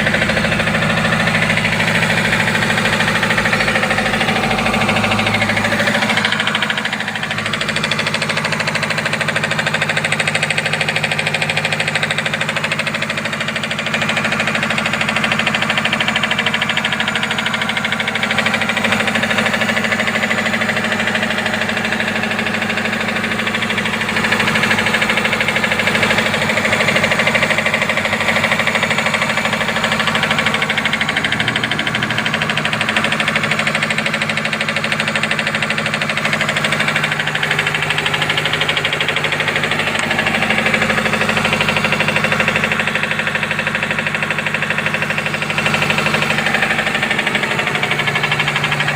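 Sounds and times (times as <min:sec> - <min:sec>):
car engine running: 0:00.0 - 0:48.9
rapid knocking inside engine: 0:00.0 - 0:48.9.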